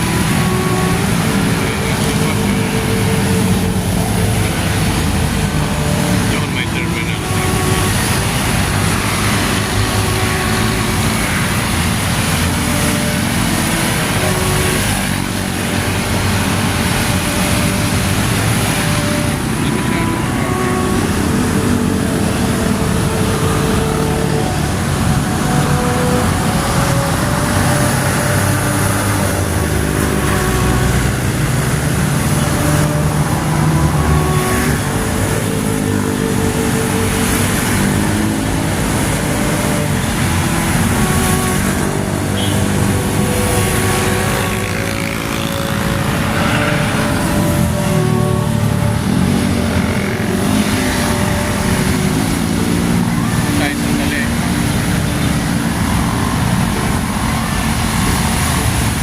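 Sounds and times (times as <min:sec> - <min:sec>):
car driving on wet road: 0:00.0 - 0:59.0.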